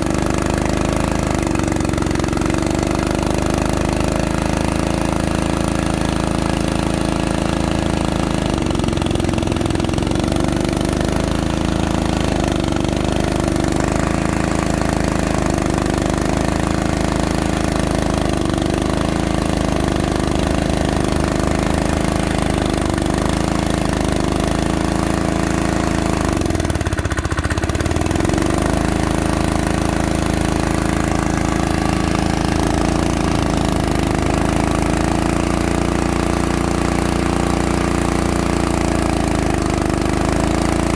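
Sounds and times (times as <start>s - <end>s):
small diesel engine running: 0.0s - 40.9s.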